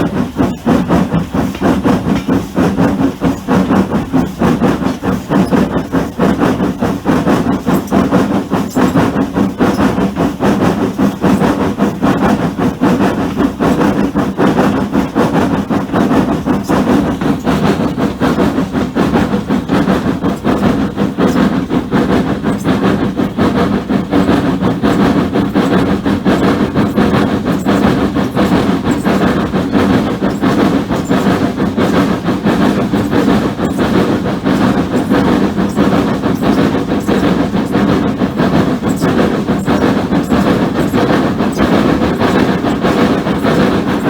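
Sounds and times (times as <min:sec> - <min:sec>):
steam train rumble and clatter: 0:00.0 - 0:44.0.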